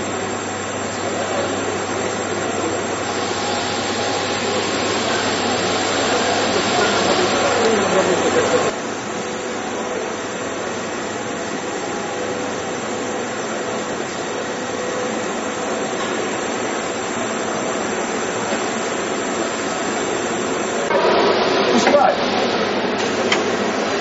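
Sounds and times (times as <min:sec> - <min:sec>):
machine whirring: 0:00.0 - 0:24.0.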